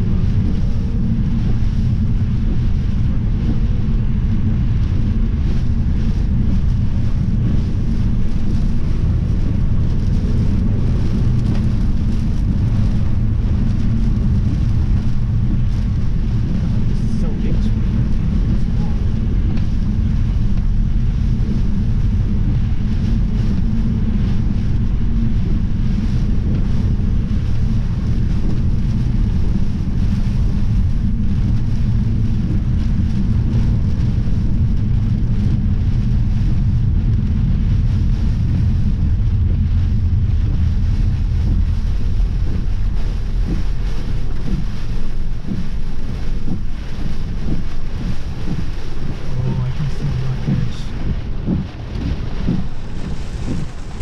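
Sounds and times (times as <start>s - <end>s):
wind blasting microphone: 0.0s - 54.0s.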